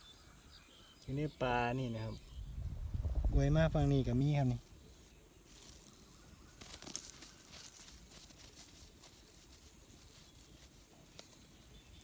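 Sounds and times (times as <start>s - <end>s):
dry forest floor crackling: 2.2s - 12.0s.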